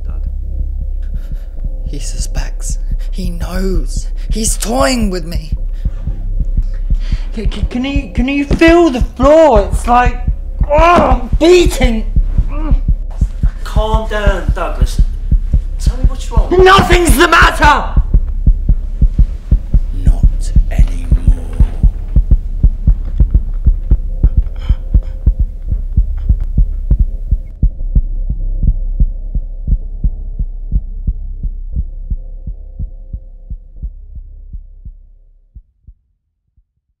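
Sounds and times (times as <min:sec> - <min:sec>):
heartbeat thumps: 0:00.0 - 0:36.0
steady low hum: 0:00.0 - 0:36.0.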